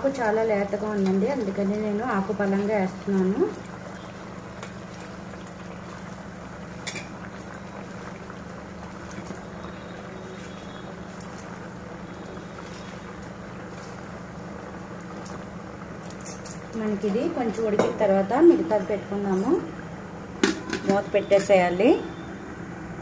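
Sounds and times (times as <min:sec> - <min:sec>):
faint crackles of leaves: 0:00.0 - 0:19.8
pot of chicken bubbling: 0:00.0 - 0:22.7
low steady hum: 0:00.0 - 0:23.0.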